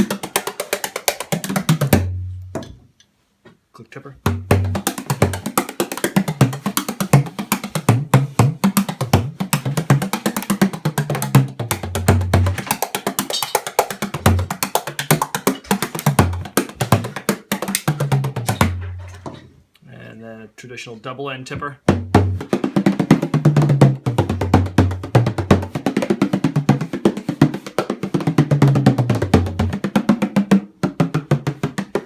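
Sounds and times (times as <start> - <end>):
frame drum played with a tipper: 0.0 - 2.6, 4.3 - 19.3, 21.8 - 32.0.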